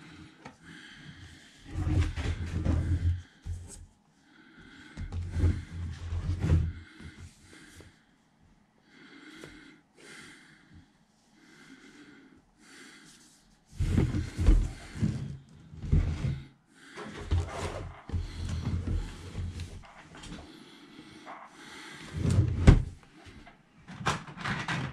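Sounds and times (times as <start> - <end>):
breathing close to microphone: 0.0 - 23.6.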